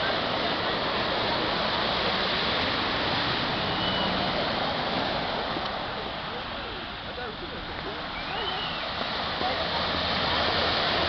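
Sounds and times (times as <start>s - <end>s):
cars driving through floodwater: 0.0s - 11.0s.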